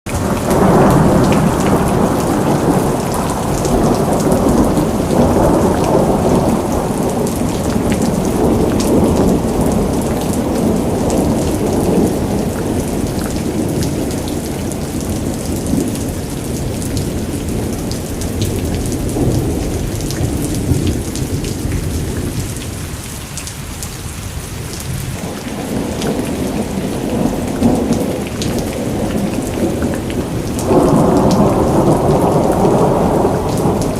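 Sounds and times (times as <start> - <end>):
heavy rain: 0.0 - 33.9
rolling thunder rumble: 0.1 - 23.0, 24.7 - 33.9.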